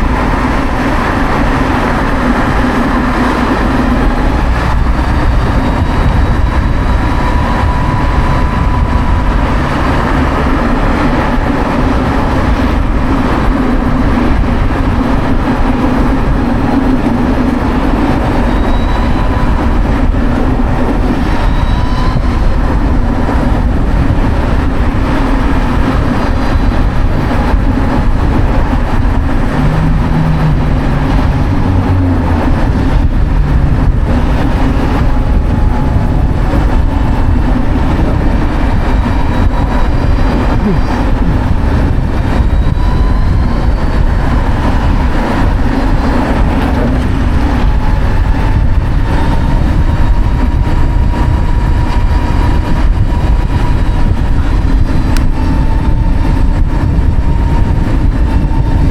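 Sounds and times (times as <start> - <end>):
road noise: 0.0 - 58.9
wind rush: 0.0 - 58.9.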